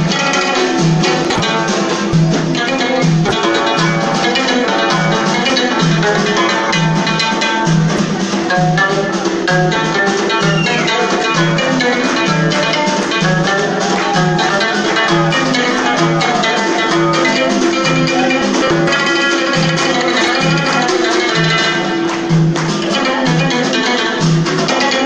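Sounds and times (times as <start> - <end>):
hand drums beating: 0.0 - 25.0
plucked lute: 0.0 - 25.0.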